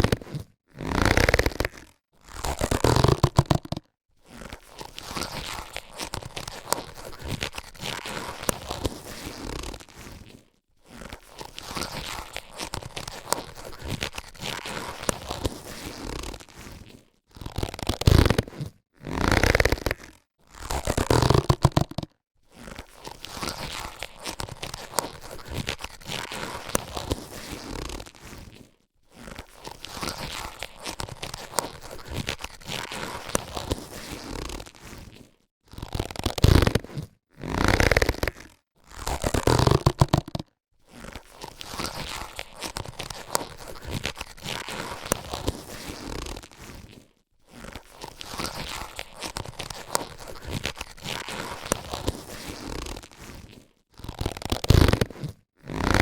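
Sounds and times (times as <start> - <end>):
latex gloves rustling: 2.6 - 18.7, 21.1 - 38.5, 39.1 - 56.0.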